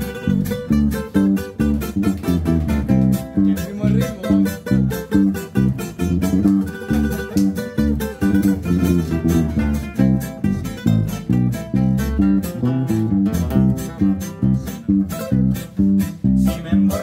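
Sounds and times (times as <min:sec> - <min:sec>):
bass line: 0:00.0 - 0:17.0
plucked guitars: 0:00.0 - 0:17.0.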